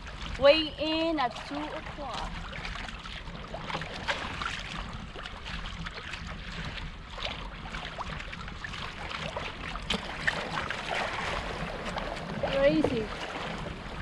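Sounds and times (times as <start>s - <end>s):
water lapping around a kayak: 0.0s - 14.0s.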